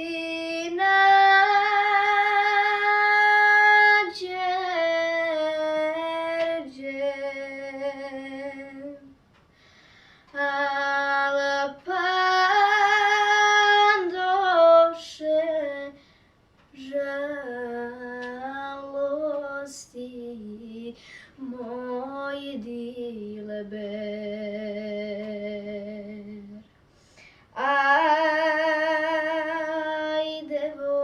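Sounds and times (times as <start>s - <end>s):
woman singing unaccompanied: 0.0s - 9.2s, 10.3s - 16.0s, 16.7s - 26.7s, 27.5s - 31.0s.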